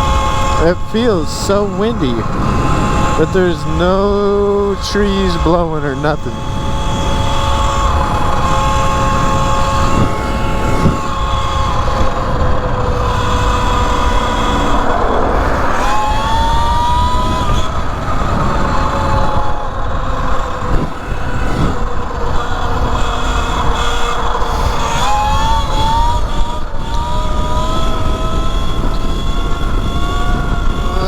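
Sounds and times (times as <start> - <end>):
electric motor whine: 0.0 - 31.0
wind rumble on microphone: 0.0 - 31.0.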